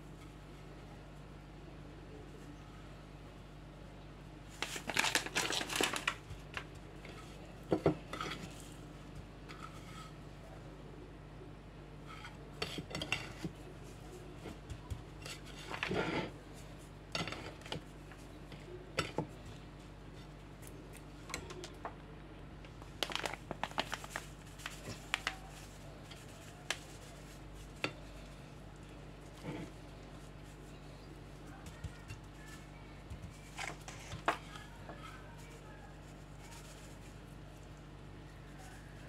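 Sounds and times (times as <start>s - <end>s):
rustles of breadcrumbs: 0.0s - 21.9s, 22.7s - 39.0s
steady low hum: 0.0s - 39.0s.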